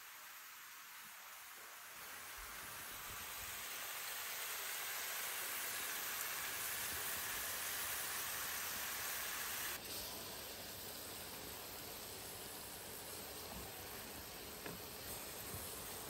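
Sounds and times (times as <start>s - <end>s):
vegetables sizzling in frying pan: 0.0s - 16.0s.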